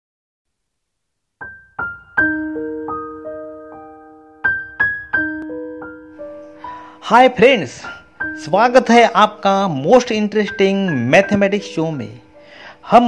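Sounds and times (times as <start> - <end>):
gentle piano melody: 1.4 - 13.0.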